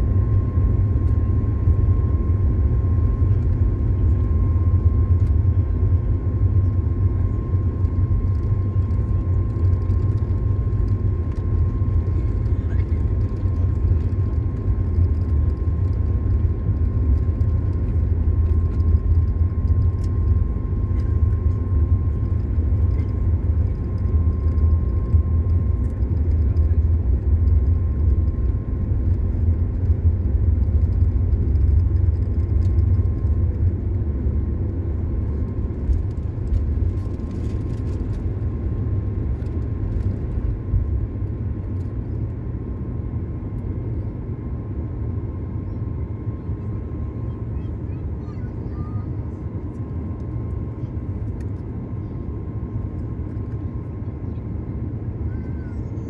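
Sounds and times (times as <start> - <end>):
faint engine whine: 0.0 - 56.0
jet engines rumbling in cabin: 0.0 - 56.0.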